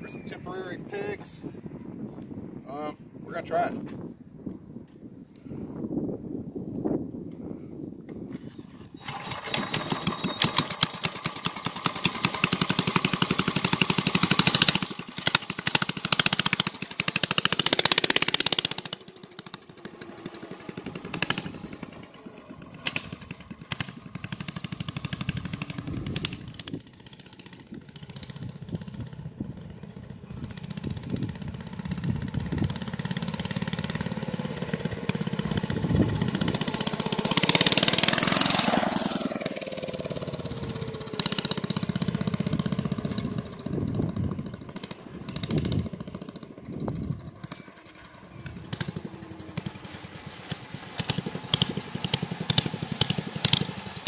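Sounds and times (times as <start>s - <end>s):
mini bike engine revving: 8.4s - 54.0s.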